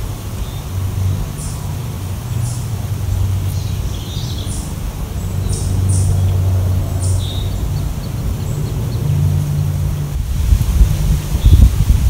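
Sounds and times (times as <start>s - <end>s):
lower bird chirps: 0.0s - 9.7s, 11.3s - 11.9s
birds calling high notes: 0.0s - 10.1s
steady low engine-like hum: 0.0s - 12.0s.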